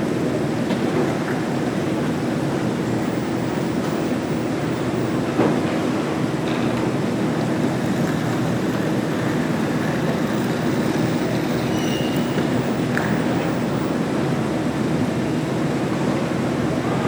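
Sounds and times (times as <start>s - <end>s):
low airport rumble: 0.0s - 17.0s.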